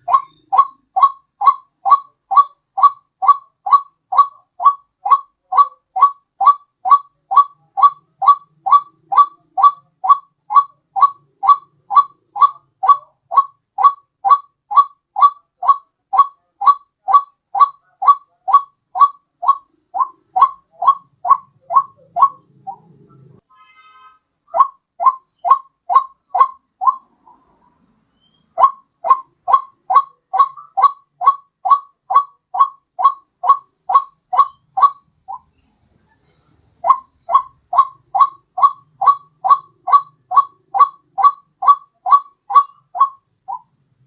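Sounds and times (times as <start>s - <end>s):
repeated bird-like call: 0.0s - 44.0s.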